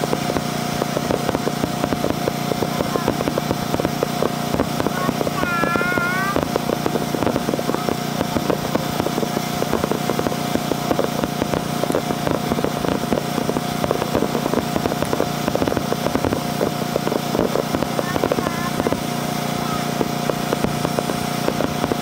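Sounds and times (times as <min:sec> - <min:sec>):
fireworks crackling and popping: 0:00.0 - 0:22.0
steady hum: 0:00.0 - 0:22.0.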